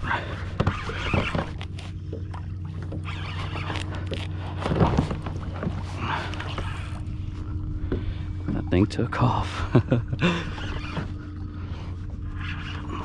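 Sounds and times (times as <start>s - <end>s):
steady low hum: 0.0s - 13.0s
water sloshing against hull: 0.0s - 13.0s.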